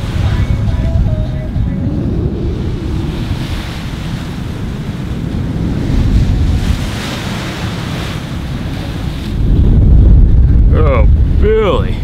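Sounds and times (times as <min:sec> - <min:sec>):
rushing hiss of wind and sea: 0:00.0 - 0:12.0
wind buffeting microphone: 0:00.0 - 0:12.0.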